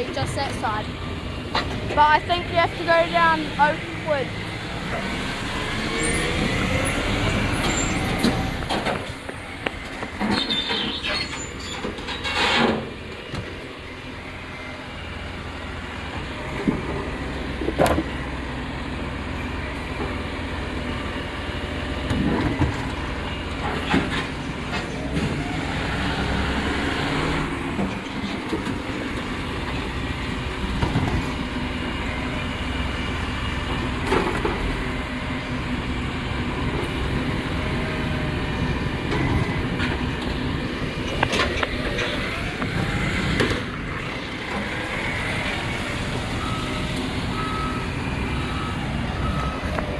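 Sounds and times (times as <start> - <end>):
vehicle rumble: 0.0 - 49.9.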